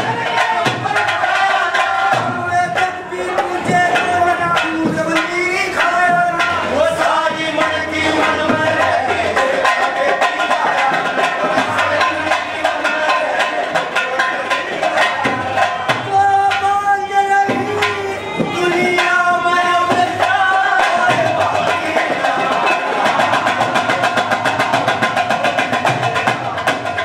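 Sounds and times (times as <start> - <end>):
person singing: 0.0 - 25.1
hand drum beaten quickly: 0.0 - 27.0.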